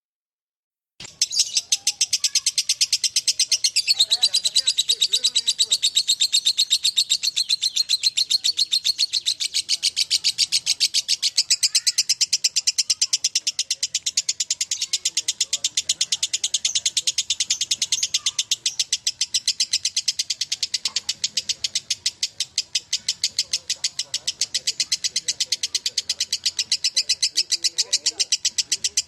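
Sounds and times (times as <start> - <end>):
bird chattering trill: 1.0 - 29.0.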